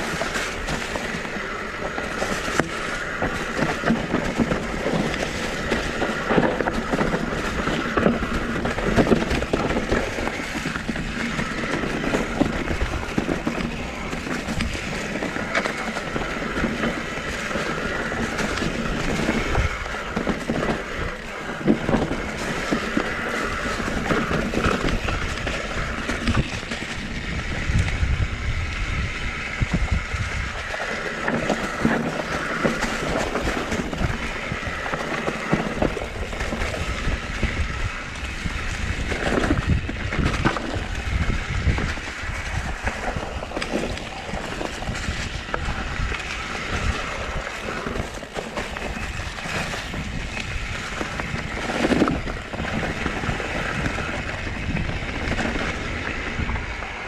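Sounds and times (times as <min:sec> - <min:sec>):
bike frame rattling: 0:00.0 - 0:57.0
bike jolts: 0:00.0 - 0:57.0
bike tyres rolling over dirt: 0:00.0 - 0:57.0
wind on microphone: 0:00.0 - 0:57.0.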